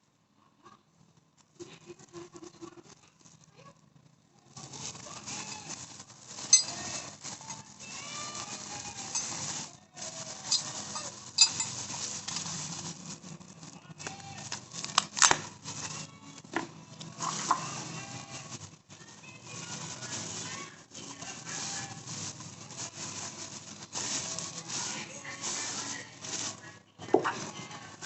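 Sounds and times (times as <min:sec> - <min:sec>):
parts and packaging handled: 0:04.6 - 0:28.0.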